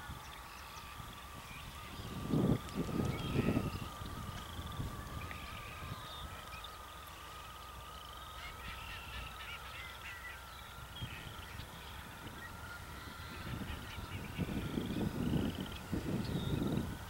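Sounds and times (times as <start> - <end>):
geese honking: 0.0 - 16.8
continuous high trilling: 0.0 - 17.0
low rumble of wind: 0.0 - 17.0.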